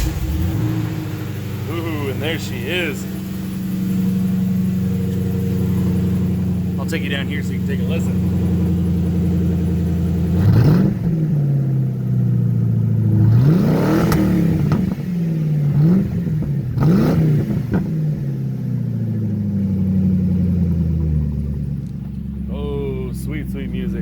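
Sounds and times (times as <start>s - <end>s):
truck engine revving and idling: 0.0s - 24.0s.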